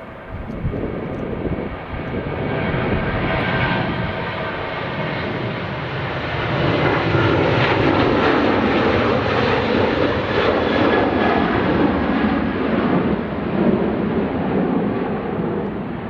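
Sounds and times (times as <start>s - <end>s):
jet engines rushing at takeoff: 0.0s - 16.0s.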